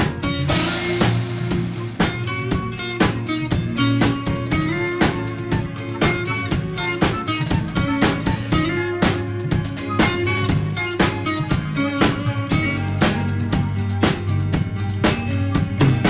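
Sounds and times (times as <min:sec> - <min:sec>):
drum kit beat: 0:00.0 - 0:16.0
guitar: 0:00.0 - 0:16.0.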